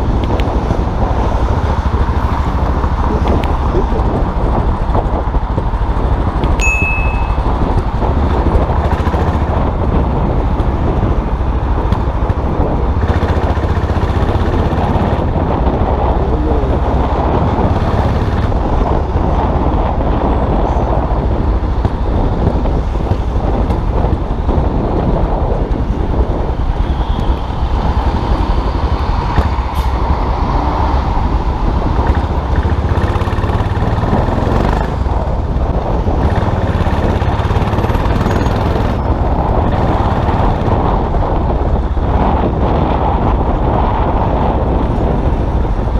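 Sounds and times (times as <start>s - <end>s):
motorcycle engine running: 0.0s - 29.7s, 30.5s - 45.9s
road and traffic noise: 0.0s - 45.9s.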